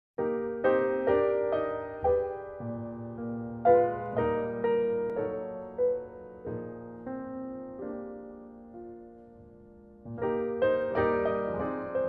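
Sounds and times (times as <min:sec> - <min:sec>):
slow piano ballad: 0:00.2 - 0:12.0.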